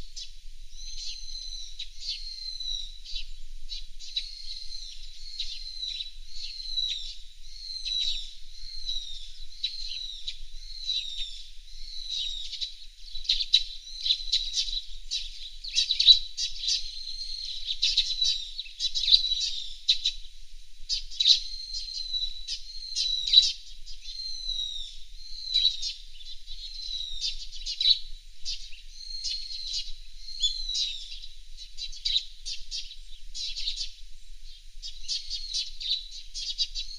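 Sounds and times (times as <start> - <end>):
small songbird chirping: 0.0 - 36.9.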